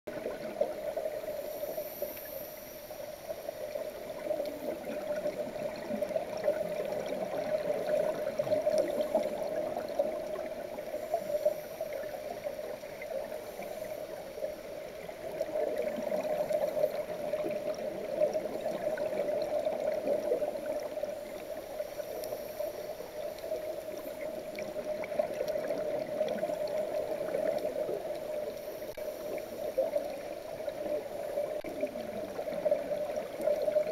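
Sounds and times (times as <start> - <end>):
gurgling bubbles: 0.1 - 1.6, 3.6 - 33.9
faint crackling: 0.1 - 33.9.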